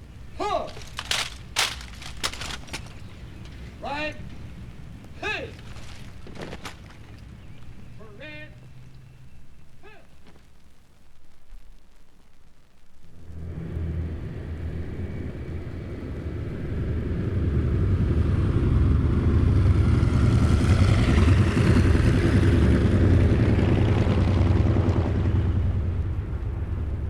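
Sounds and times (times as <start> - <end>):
propeller aircraft engine rumble: 0.0 - 27.0.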